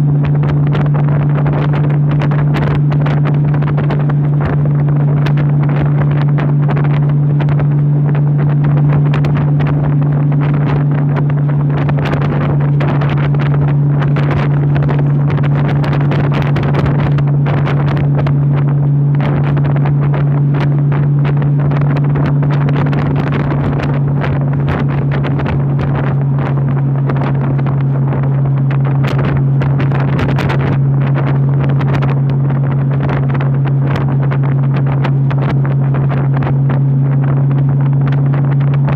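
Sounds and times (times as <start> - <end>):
motorcycle engine cruising: 0.0 - 38.9
wind buffeting microphone: 0.0 - 38.9.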